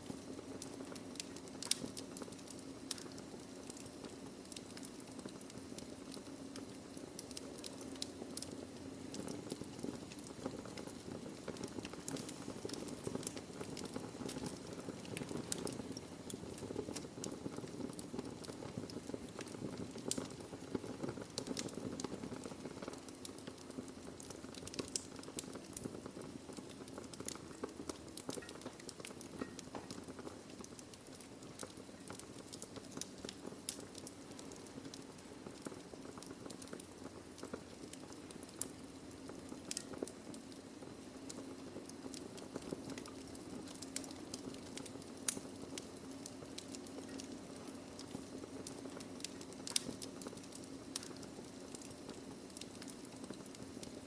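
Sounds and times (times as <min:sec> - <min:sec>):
fire crackling and popping: 0:00.0 - 0:54.0
low rush of flame: 0:00.0 - 0:54.0.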